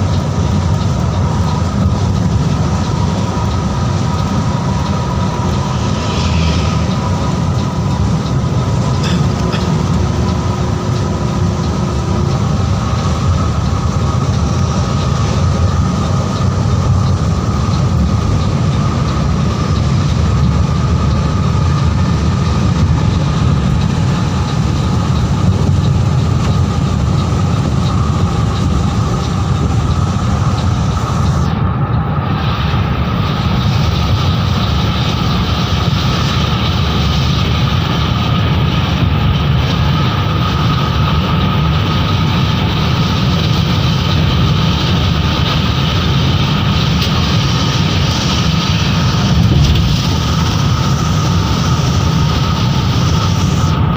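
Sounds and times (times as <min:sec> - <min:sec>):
coach engine drone: 0:00.0 - 0:53.9
road noise: 0:00.0 - 0:53.9.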